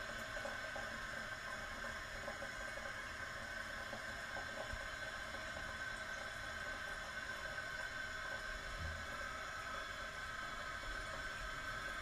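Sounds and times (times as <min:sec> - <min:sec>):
toilet water running: 0:00.0 - 0:12.0.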